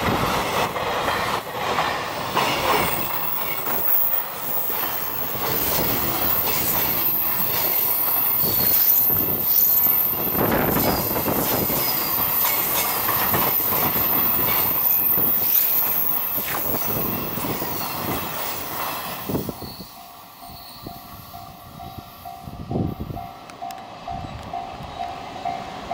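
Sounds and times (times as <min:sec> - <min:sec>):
freight train wheels clattering: 0:00.0 - 0:22.4.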